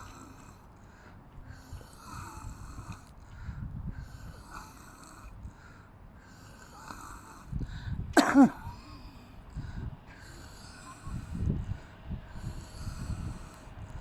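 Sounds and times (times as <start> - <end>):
heavy wheezy breathing: 0.0 - 14.0.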